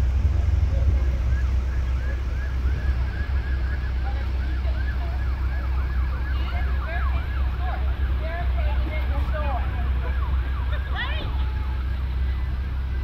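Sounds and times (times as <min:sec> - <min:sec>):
sirens yelping: 0:00.0 - 0:13.0
steady low rumble: 0:00.0 - 0:13.0.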